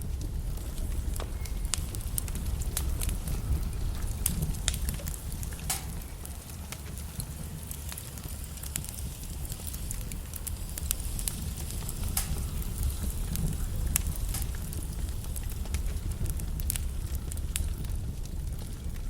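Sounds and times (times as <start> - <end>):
flames rumbling: 0.0 - 19.0
logs crackling and popping: 0.0 - 19.0.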